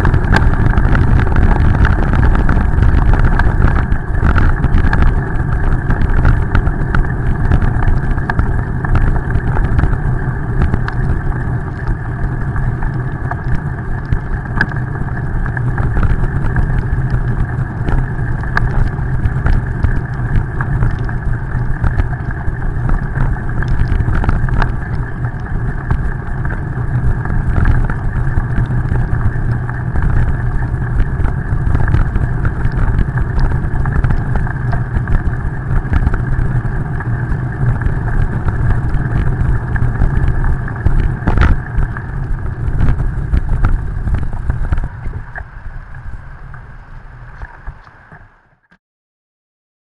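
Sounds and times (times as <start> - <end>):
wind rumble: 0.0 - 48.7.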